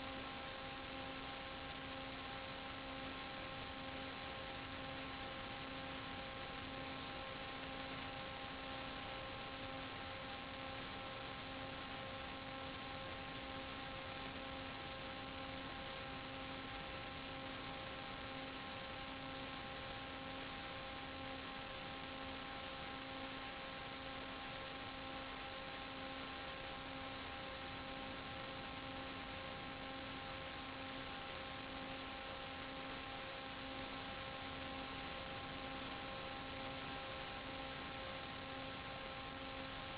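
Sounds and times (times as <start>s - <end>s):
constant hiss: 0.0s - 39.9s
steady multi-tone hum: 0.0s - 39.9s.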